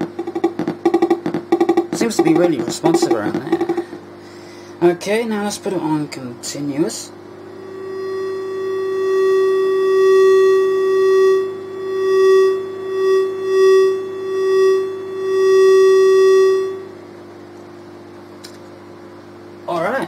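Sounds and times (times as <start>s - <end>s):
electronic buzzing tone: 0.0s - 4.4s, 6.6s - 19.6s.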